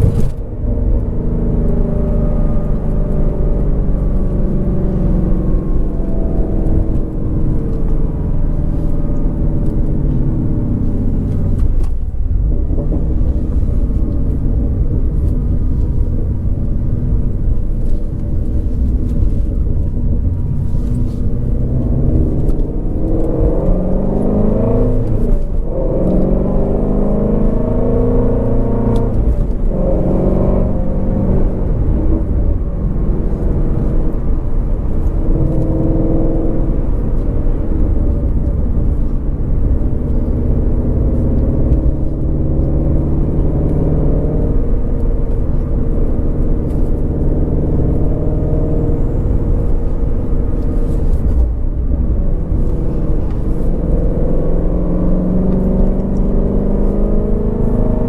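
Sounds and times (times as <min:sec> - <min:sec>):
car engine revving while driving: 0:00.0 - 0:58.0.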